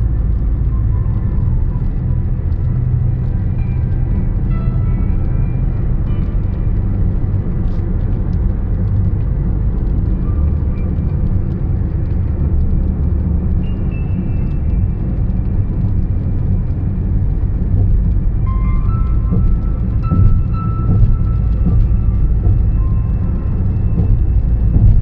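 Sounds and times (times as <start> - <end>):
car interior road rumble: 0.0 - 25.0
tyre and wind noise: 0.0 - 25.0.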